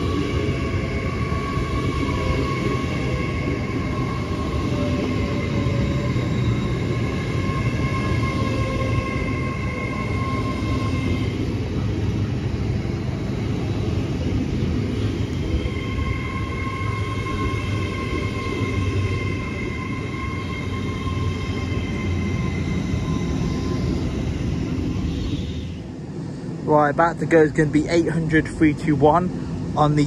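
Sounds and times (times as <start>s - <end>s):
high-pitched train whine: 0.0s - 30.0s
train rumble: 0.0s - 30.0s.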